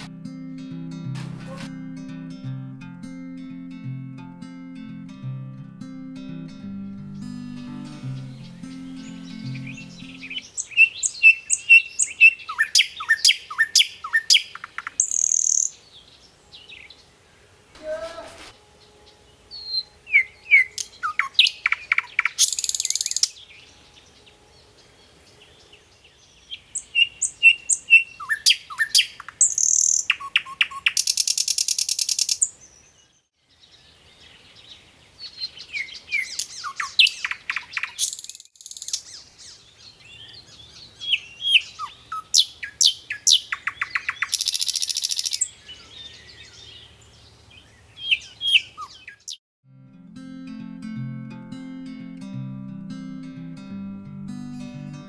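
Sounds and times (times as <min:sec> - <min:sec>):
songbird singing with buzzy trills: 0:02.0 - 0:18.0, 0:18.6 - 0:49.4.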